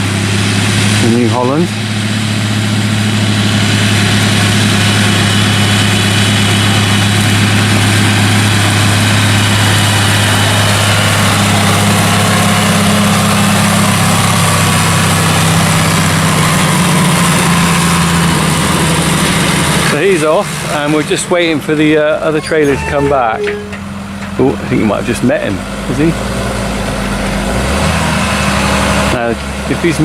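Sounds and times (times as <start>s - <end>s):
diesel machinery engine hum: 0.0s - 30.0s.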